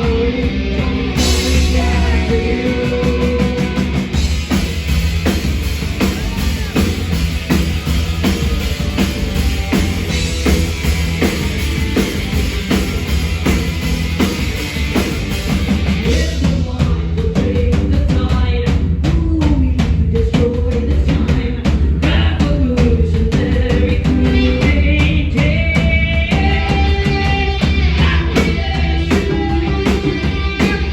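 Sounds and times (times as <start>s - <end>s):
rock band playing live: 0.0s - 30.9s
drum beat: 1.0s - 30.9s.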